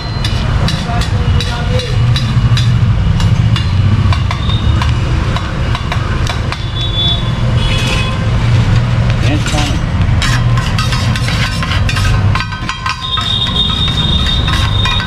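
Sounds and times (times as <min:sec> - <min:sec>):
metal utensils clinking on griddle: 0:00.1 - 0:06.6, 0:09.3 - 0:15.0.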